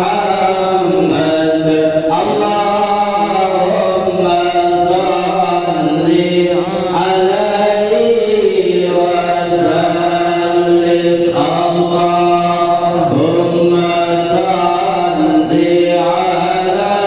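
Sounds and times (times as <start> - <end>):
person chanting long held notes: 0.0 - 17.0.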